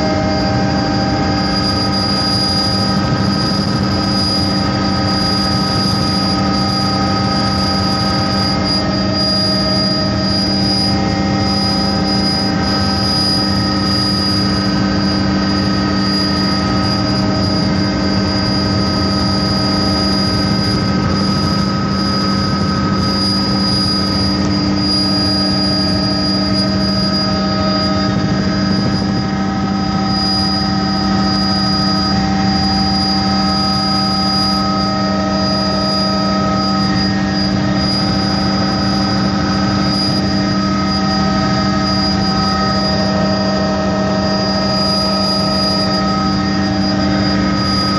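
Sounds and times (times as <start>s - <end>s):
helicopter engine and rotors drone: 0.0s - 47.9s.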